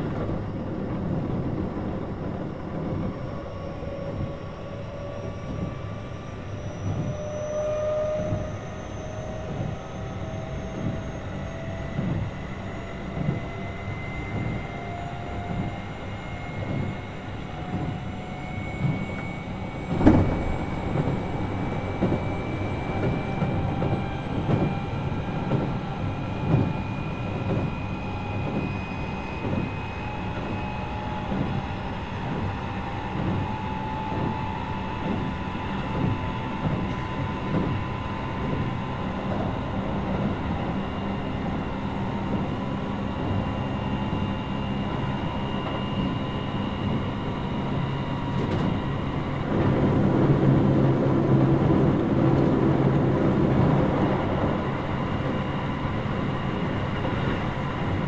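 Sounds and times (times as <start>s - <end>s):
train motor whine: 0.0s - 58.0s.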